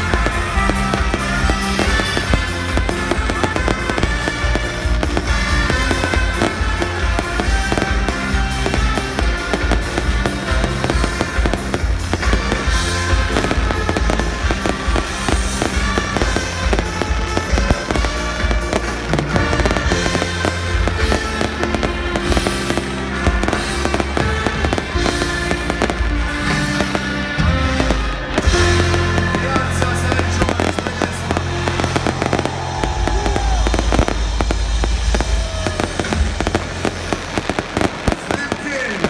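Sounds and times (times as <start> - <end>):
fireworks bangs and crackles: 0.0 - 39.0
loud music with heavy bass: 0.0 - 39.0.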